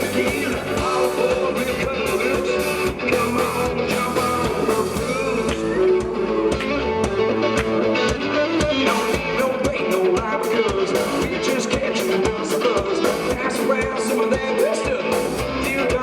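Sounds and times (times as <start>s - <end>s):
guitar: 0.0s - 16.0s
steady drum beat: 0.0s - 16.0s.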